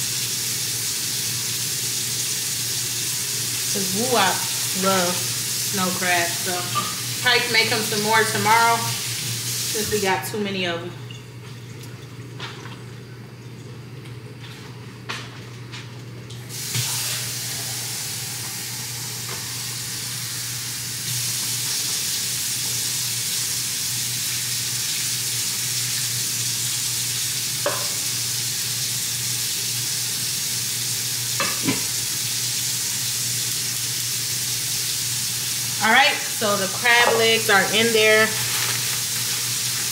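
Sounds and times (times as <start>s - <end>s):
pot sizzling: 0.0s - 11.4s, 16.4s - 39.9s.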